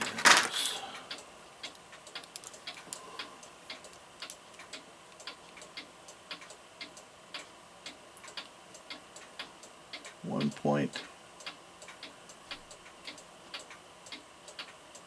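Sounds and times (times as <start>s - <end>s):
mechanical clock ticking: 1.0s - 15.0s.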